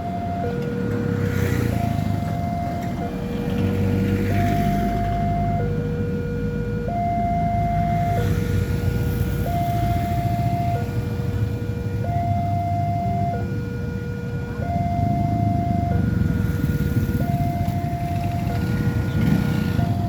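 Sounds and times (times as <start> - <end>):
level crossing two-tone alarm: 0.0 - 0.7, 1.7 - 3.2, 4.2 - 8.3, 9.1 - 11.4, 12.0 - 20.0
low rumble of vehicle engines: 0.0 - 20.0.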